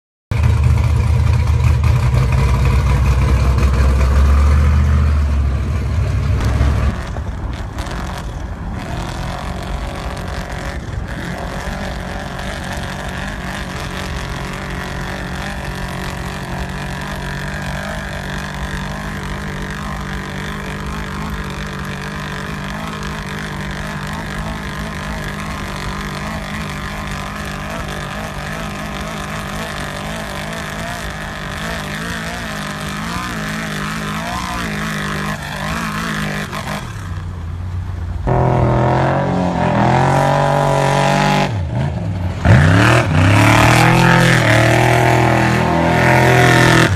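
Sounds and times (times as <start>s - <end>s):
race truck engine running loud: 0.3s - 46.9s
steady engine drone: 0.3s - 46.9s.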